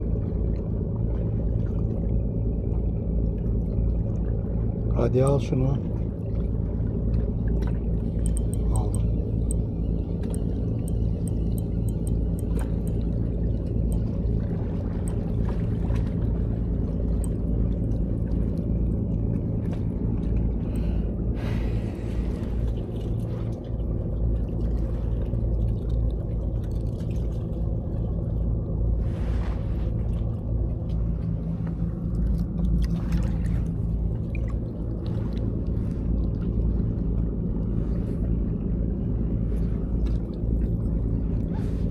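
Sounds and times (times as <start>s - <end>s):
low engine-like rumble: 0.0s - 41.9s.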